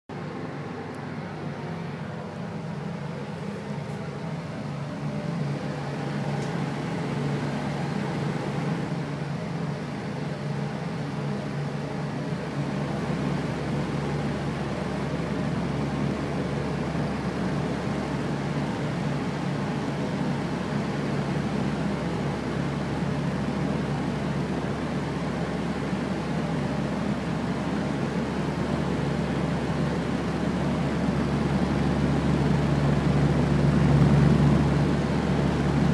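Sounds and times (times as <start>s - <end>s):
deeper hum: 0.1s - 35.9s
fan running: 0.1s - 35.9s.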